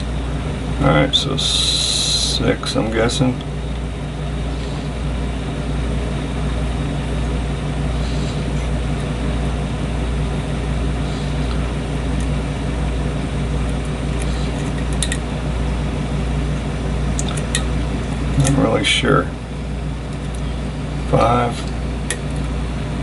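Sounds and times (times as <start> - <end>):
constant hiss: 0.0 - 22.6
low mechanical hum: 0.0 - 23.0.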